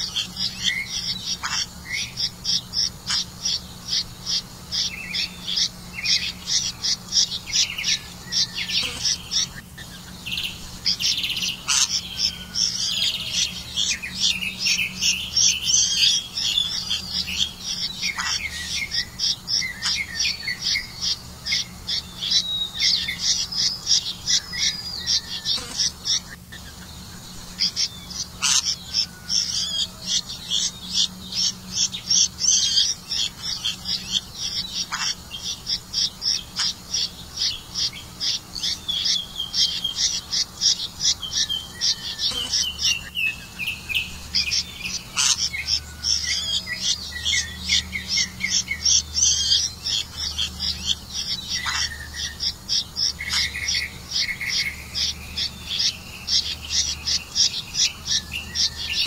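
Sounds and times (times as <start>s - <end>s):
nestlings begging chirps: 0.0s - 59.0s.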